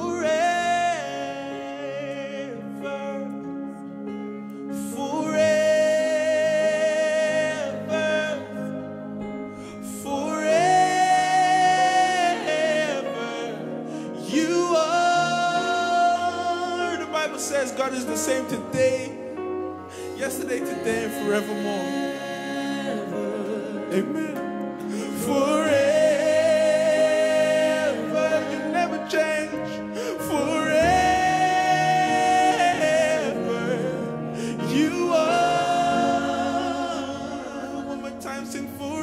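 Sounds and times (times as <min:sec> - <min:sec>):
worship band playing: 0:00.0 - 0:39.0
man singing long notes: 0:04.7 - 0:39.0.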